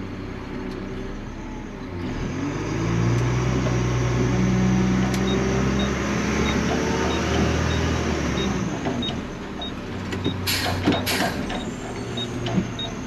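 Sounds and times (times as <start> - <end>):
garbage truck engine: 0.0 - 13.0.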